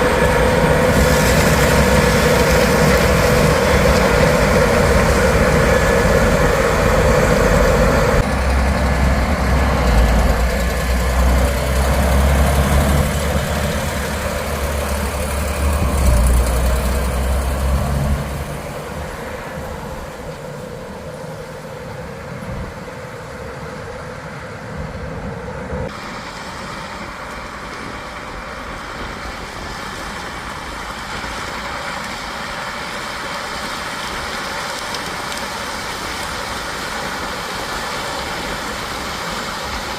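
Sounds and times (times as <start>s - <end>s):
heavy machinery engine rumbling: 0.0s - 39.9s.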